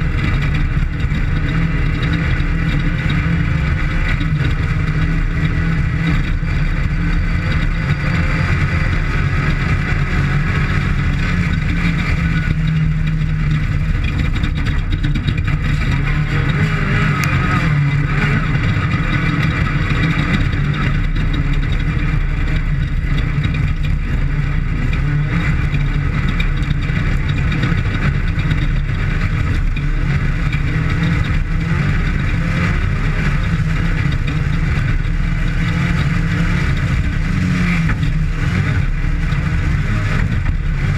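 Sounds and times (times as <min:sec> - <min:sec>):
race vehicle engine running hard: 0:00.0 - 0:40.9.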